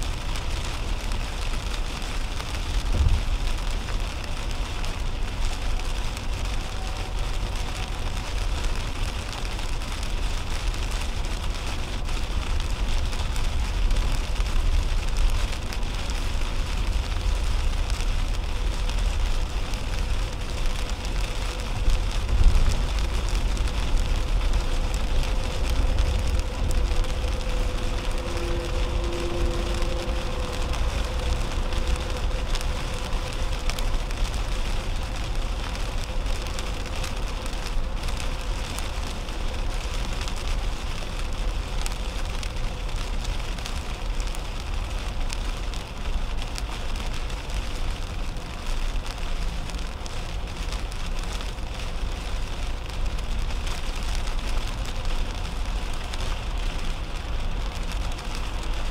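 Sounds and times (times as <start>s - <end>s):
rain hitting car windshield: 0.0s - 58.9s
tyres rumbling on wet road: 0.0s - 58.9s.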